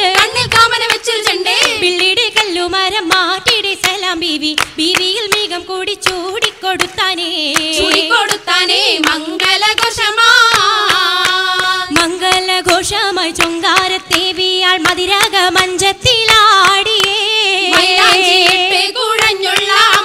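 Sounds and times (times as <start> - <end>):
sharp hand claps: 0.0 - 20.0.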